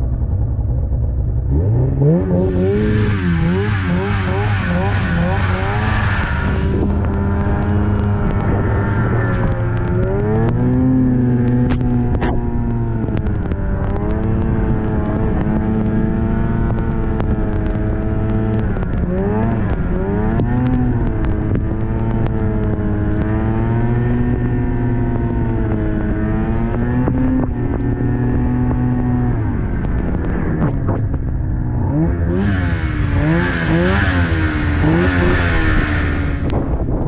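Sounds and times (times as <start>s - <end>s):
snowmobile engine running: 0.0s - 37.0s.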